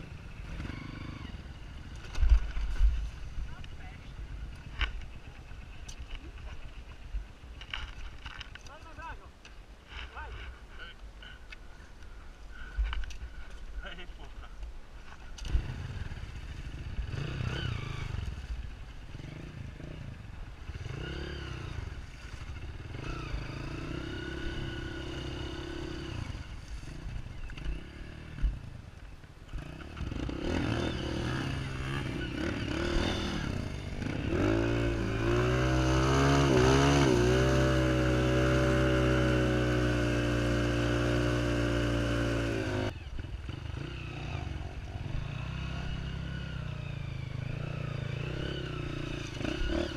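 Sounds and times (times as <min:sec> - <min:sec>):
motorcycle engine revving: 0:00.0 - 0:07.0, 0:15.4 - 0:49.9.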